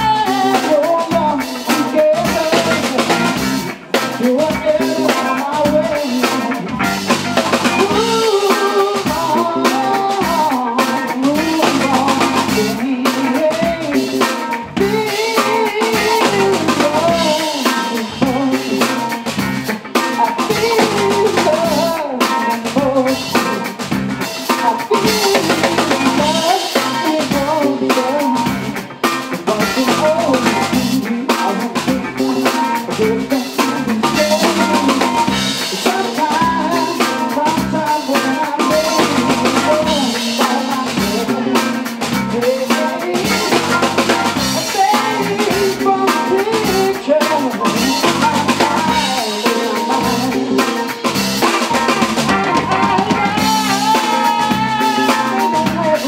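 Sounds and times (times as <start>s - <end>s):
man singing: 0.0s - 56.0s
rock band playing: 0.0s - 56.0s.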